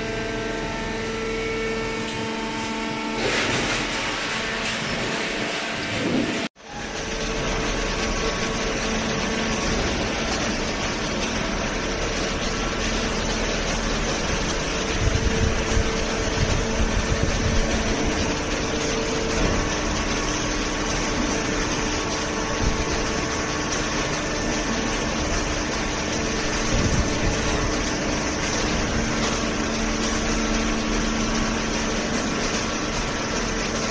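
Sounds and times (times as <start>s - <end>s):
baler machine drone: 0.0s - 33.9s.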